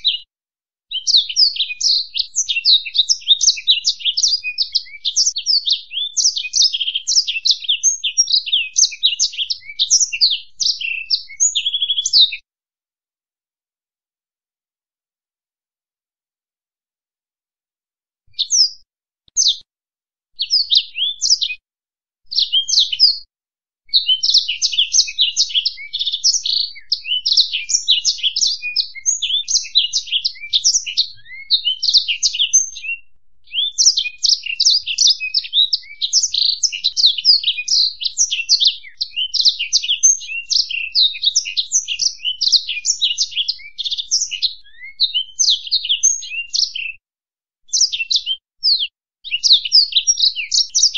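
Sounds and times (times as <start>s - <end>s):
finch twittering song: 0.0s - 0.3s, 0.9s - 12.4s, 18.3s - 19.6s, 20.4s - 21.6s, 22.3s - 23.3s, 23.9s - 47.0s, 47.7s - 50.9s.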